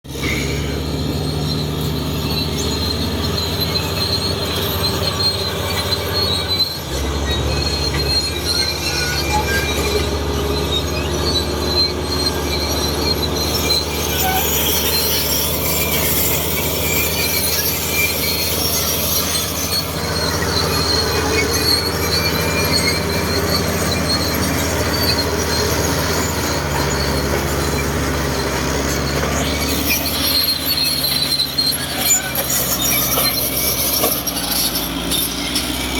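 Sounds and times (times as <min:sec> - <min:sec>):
bulldozer diesel engine drone: 0:00.0 - 0:35.9
steel tracks squealing: 0:00.1 - 0:35.9.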